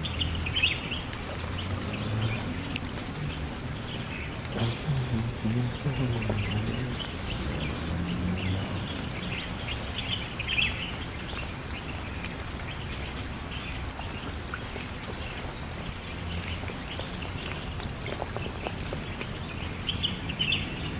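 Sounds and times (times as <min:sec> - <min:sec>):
rain pattering: 0:00.0 - 0:20.9.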